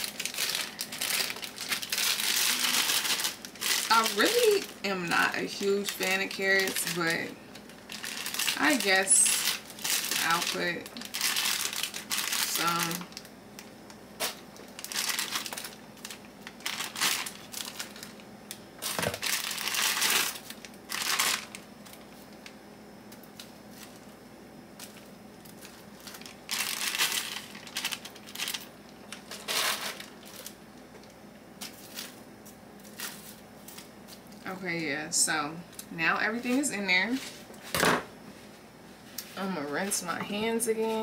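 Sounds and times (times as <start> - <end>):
plastic packaging crinkling: 0.0 - 34.5.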